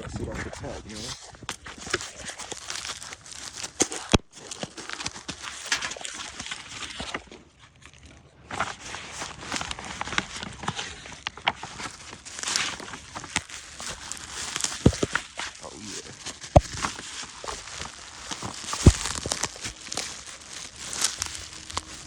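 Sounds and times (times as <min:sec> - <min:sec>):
cardboard rustling and scraping: 0:00.0 - 0:22.0.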